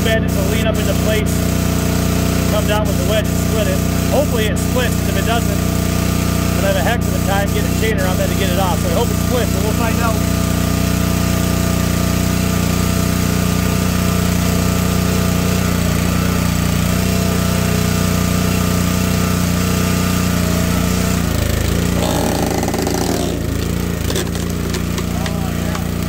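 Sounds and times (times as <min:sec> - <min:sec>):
log splitter engine running: 0:00.0 - 0:26.0.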